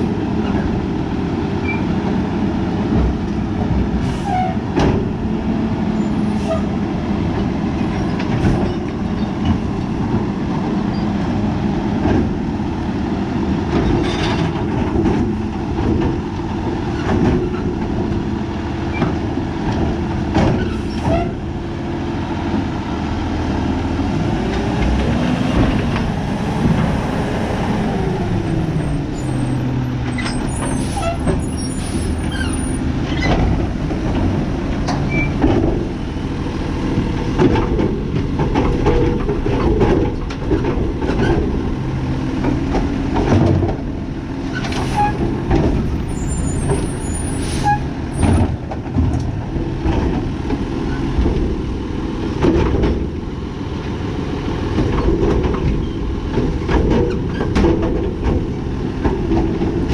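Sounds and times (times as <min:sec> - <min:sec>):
garbage truck diesel engine running: 0:00.0 - 0:59.9.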